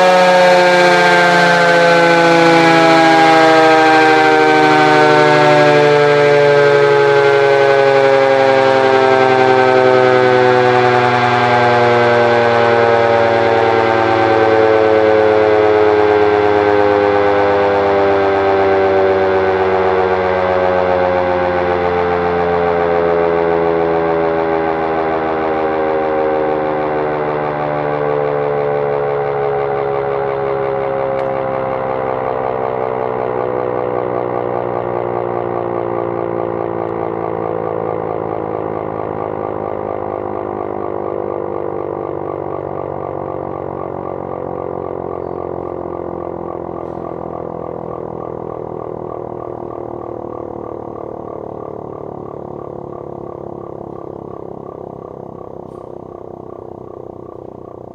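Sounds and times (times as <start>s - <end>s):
air raid siren winding down: 0.0s - 57.9s.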